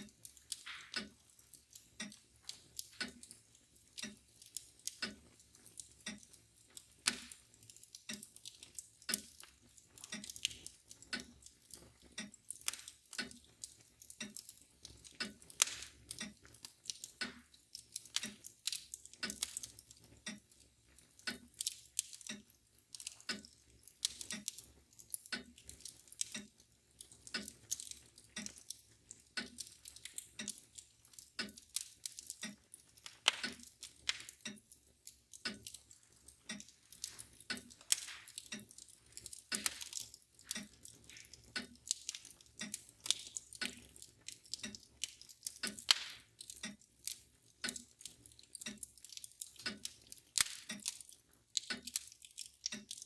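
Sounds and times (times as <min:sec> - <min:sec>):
clock ticking: 0:00.0 - 0:53.0
wood fire crackling and popping: 0:00.0 - 0:53.0.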